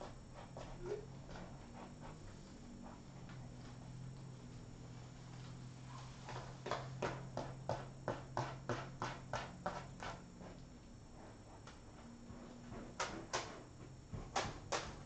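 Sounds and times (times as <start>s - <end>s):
kitten scratching in litter: 0.0s - 15.0s.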